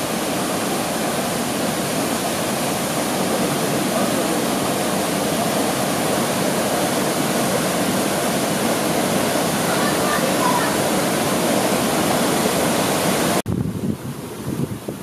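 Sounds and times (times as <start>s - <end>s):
stream water flowing over rocks: 0.0s - 13.4s.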